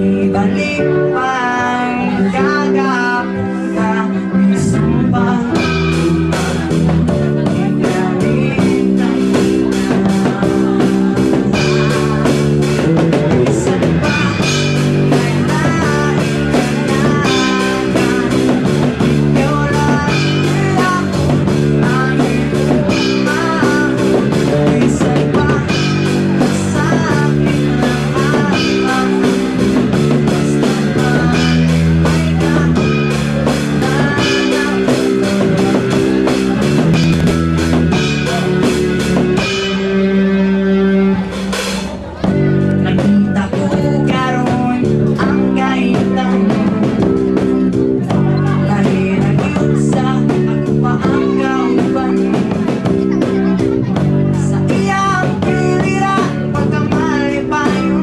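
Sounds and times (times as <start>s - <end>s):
rock song with singing: 0.0s - 58.0s.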